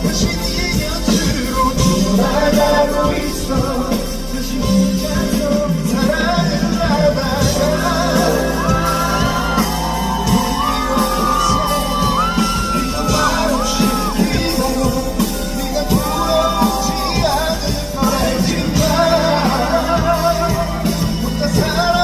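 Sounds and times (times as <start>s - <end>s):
live band playing: 0.0s - 22.0s
person singing long notes: 0.0s - 22.0s.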